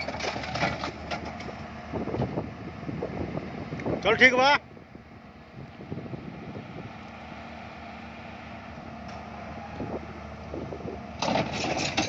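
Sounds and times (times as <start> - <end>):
diesel excavator engine idling: 0.0 - 12.0.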